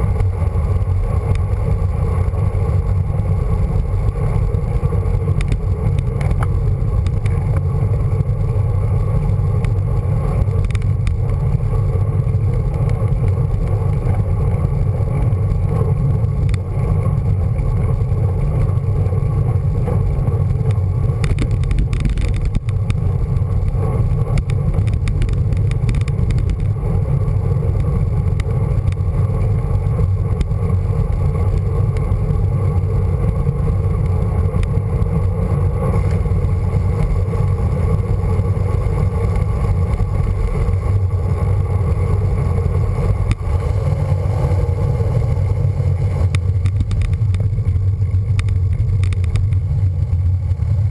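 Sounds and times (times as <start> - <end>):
faint ticks and rattles: 0.0 - 43.7, 46.0 - 50.9
tyre and road noise: 0.0 - 50.9
wind buffeting microphone: 0.0 - 50.9.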